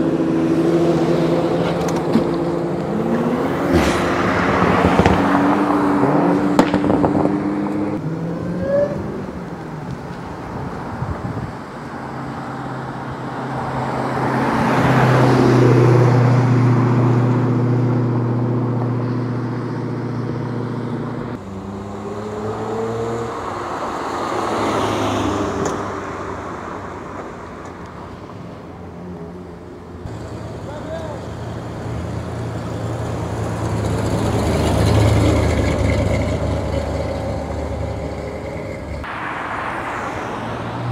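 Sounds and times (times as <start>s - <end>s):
car engines driving past: 0.0s - 40.9s.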